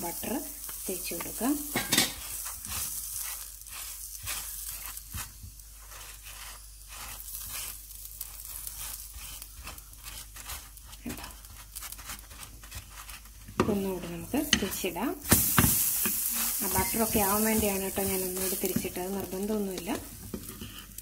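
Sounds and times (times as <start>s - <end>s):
butter sizzling in a pan: 0.0s - 21.0s
wooden spatula scraping: 0.0s - 21.0s.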